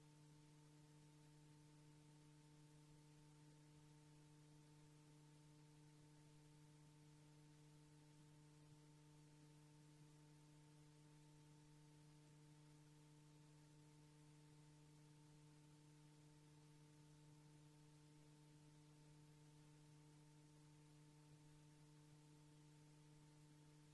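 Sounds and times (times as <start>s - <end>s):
faint electrical hum: 0.0s - 23.9s
tape hiss: 0.0s - 23.9s.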